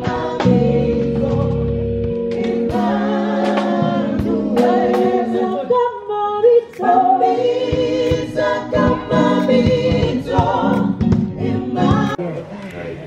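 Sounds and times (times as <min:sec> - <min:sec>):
women singing gospel in harmony: 0:00.0 - 0:12.2.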